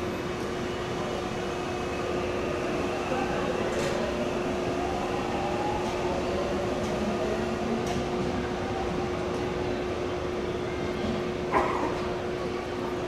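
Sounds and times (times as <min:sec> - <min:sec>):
electric train humming: 0:00.0 - 0:11.5.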